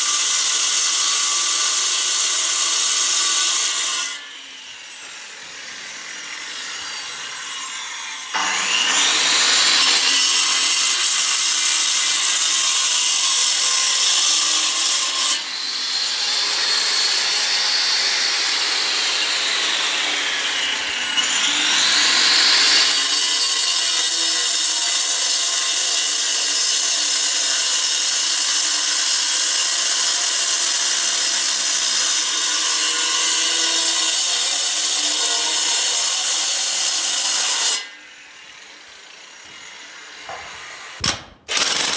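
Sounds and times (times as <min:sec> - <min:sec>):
power tool grinding: 0:00.0 - 0:24.7, 0:31.0 - 0:41.9.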